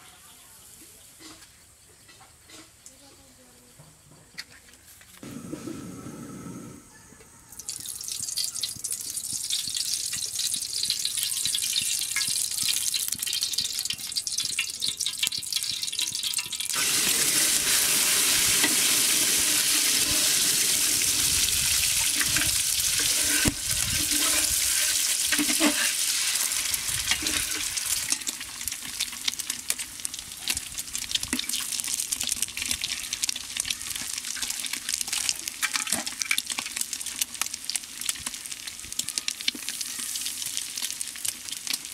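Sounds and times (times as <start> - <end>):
eggs sizzling in oil: 7.5 - 41.9
cooking oil hissing in a pot: 7.6 - 41.9.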